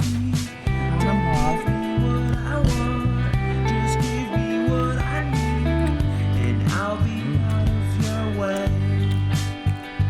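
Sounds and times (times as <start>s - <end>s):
guitar background music: 0.0s - 10.0s
steady bass line: 0.0s - 10.0s.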